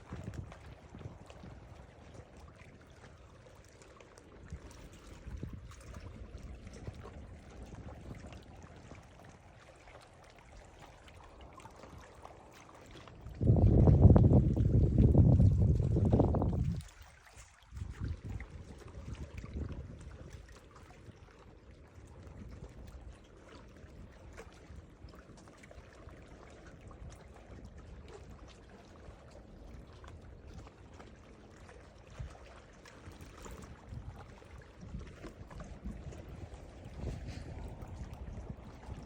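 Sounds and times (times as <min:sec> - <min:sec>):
ocean water lapping and splashing: 0:00.0 - 0:39.0.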